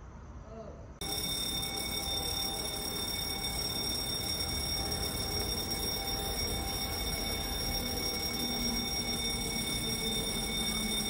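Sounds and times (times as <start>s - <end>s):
level crossing alarm tone: 1.0s - 11.0s.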